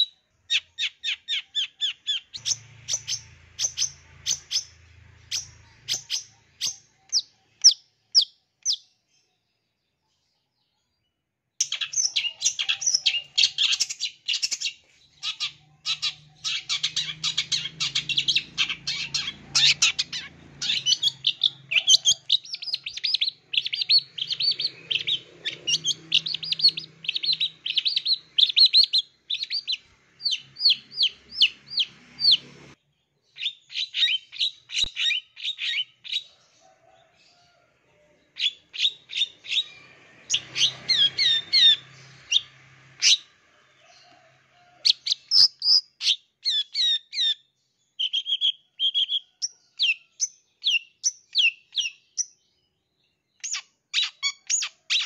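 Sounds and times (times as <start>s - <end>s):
bird chattering song: 0.0s - 9.1s, 11.6s - 32.7s, 33.3s - 36.4s, 38.3s - 43.3s, 44.8s - 52.4s, 53.1s - 55.0s.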